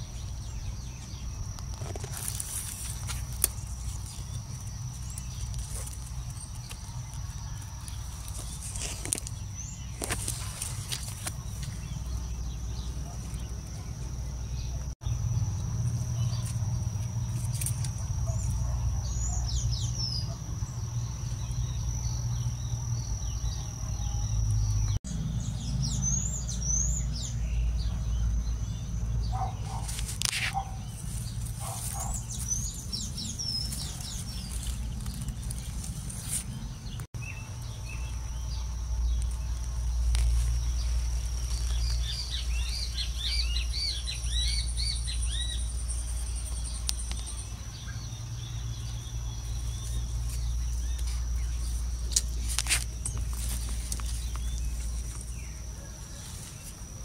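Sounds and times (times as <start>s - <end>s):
garden birds chirping: 0.0s - 57.0s.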